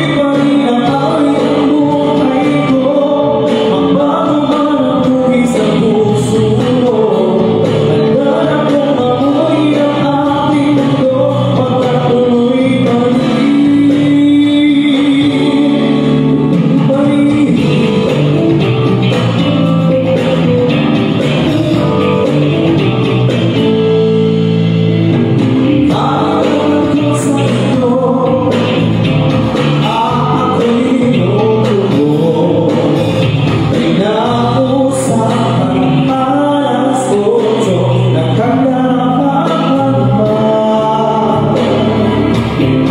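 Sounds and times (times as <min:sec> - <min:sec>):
man singing into microphone: 0:00.0 - 0:22.0, 0:25.7 - 0:42.9
instrumental backing music: 0:00.0 - 0:42.9.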